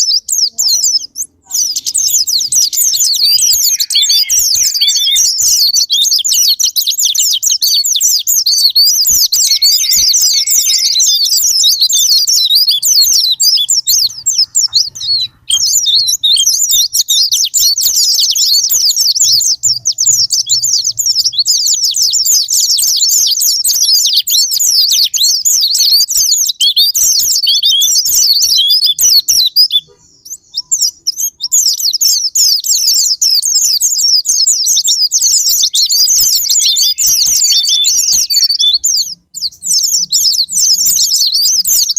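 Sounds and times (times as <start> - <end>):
small birds chirping and twittering: 0.0 - 41.9.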